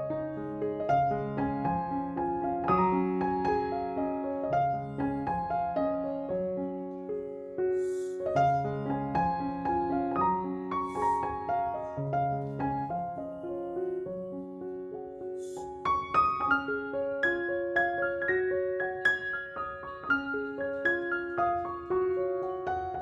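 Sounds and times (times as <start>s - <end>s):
slow piano music: 0.0s - 23.0s.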